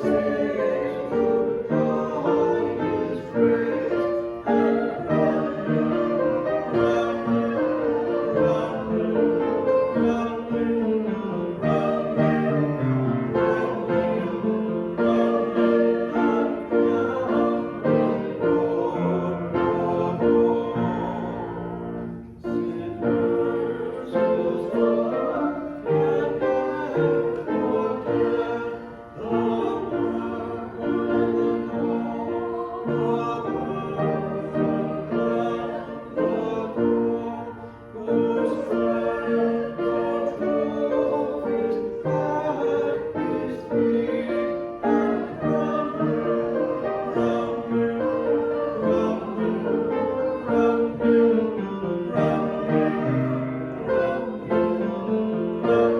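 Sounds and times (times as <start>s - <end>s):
congregation singing a hymn: 0.0s - 55.9s.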